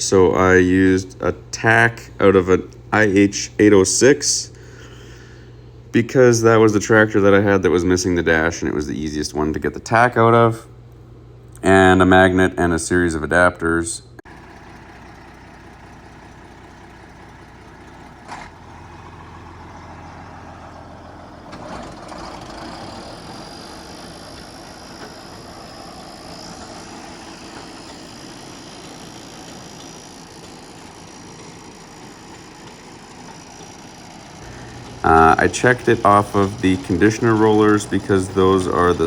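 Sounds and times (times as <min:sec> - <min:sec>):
tractor engine running: 0:00.0 - 0:11.6, 0:14.3 - 0:39.0.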